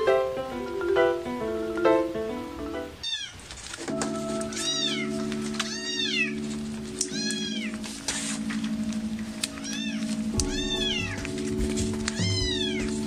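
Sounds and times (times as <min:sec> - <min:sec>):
background music: 0:00.0 - 0:03.0, 0:03.9 - 0:13.0.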